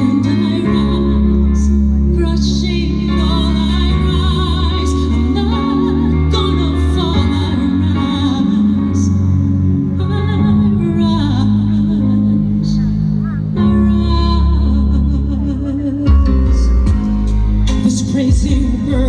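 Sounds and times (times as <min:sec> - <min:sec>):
woman singing a ballad: 0:00.0 - 0:19.0.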